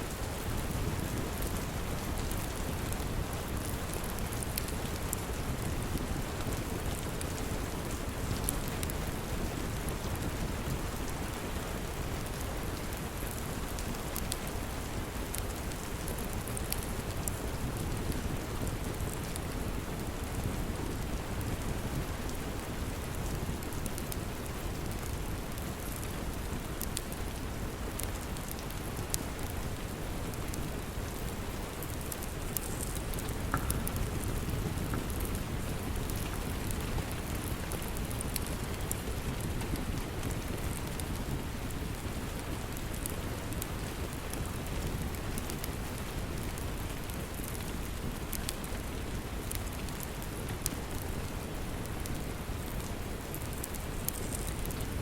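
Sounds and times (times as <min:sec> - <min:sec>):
steady rain falling: 0:00.0 - 0:55.0
wood fire crackling: 0:00.0 - 0:55.0.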